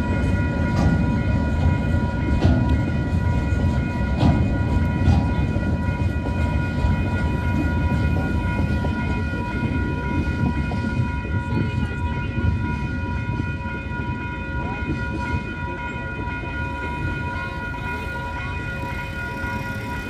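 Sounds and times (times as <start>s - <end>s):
freight train rumbling: 0.0s - 20.0s
steady high-pitched tones: 0.0s - 20.0s.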